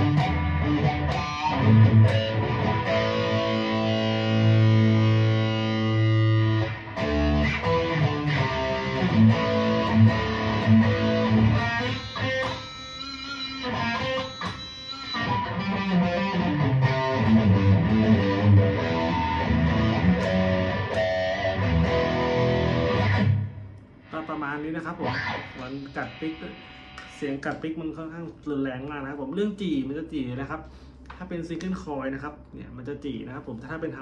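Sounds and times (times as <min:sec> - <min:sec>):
distorted electric guitar riffs: 0:00.0 - 0:27.6.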